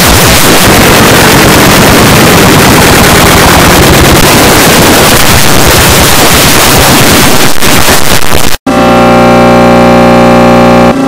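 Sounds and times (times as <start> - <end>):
distorted electronic sound effects: 0.0 - 11.0.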